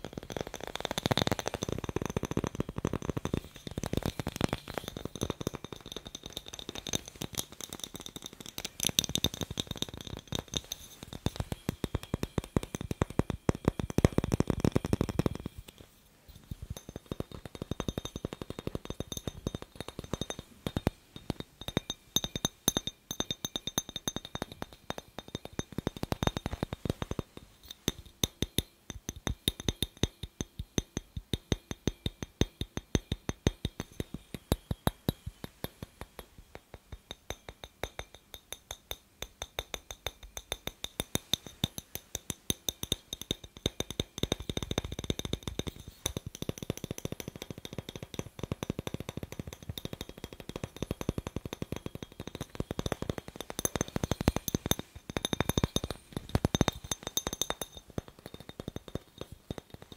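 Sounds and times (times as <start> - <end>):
fingernails tapping on glass bulb: 0.0 - 59.9.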